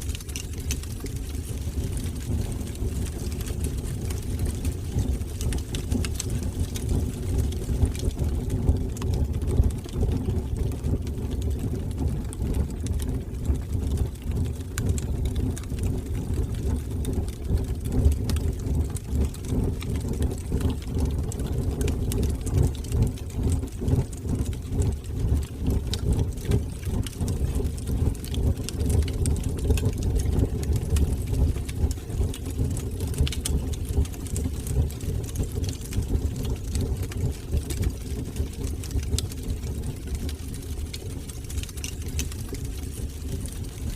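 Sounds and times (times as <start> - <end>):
fire crackles and pops: 0.0 - 43.9
fire flames rumbling: 0.0 - 43.9.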